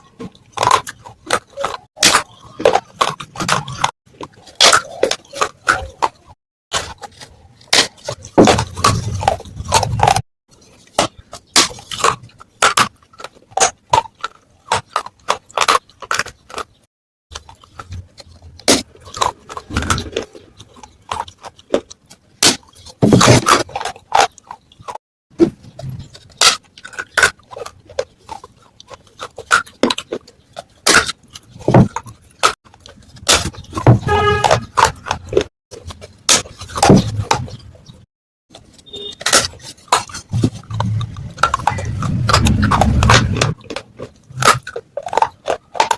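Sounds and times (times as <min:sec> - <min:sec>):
crunchy chewing: 0:00.0 - 0:45.9.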